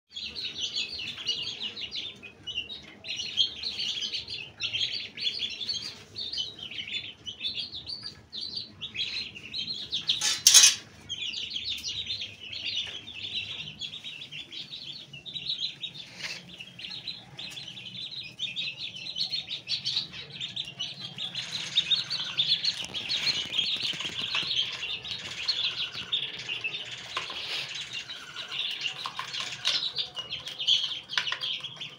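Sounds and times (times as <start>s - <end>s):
chicks and ducklings peeping: 0.1s - 31.9s.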